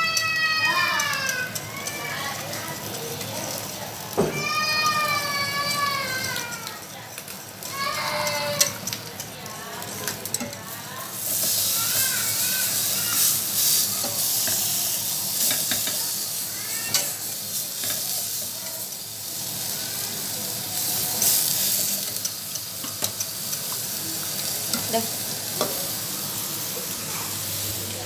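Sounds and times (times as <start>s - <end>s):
meat sizzling in frying pan: 0.0s - 28.0s.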